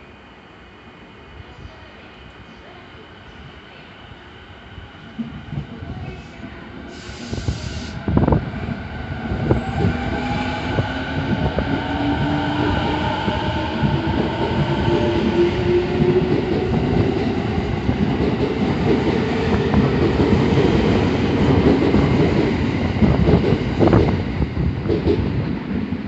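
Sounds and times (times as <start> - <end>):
train wheels rumbling on rails: 5.0 - 26.0.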